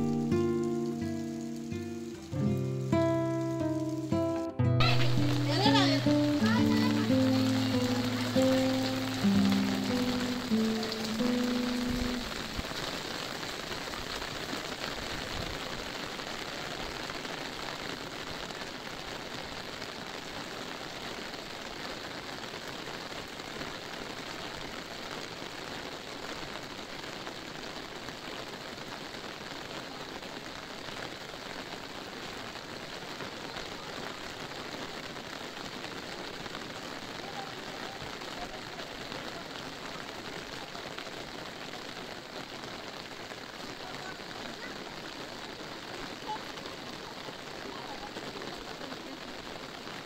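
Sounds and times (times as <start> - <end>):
rain on a fabric umbrella: 0.0 - 50.0.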